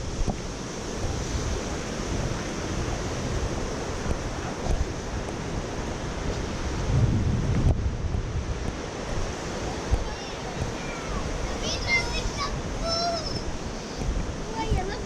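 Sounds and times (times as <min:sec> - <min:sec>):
rushing stream water: 0:00.0 - 0:15.0
wind buffeting microphone: 0:00.0 - 0:15.0.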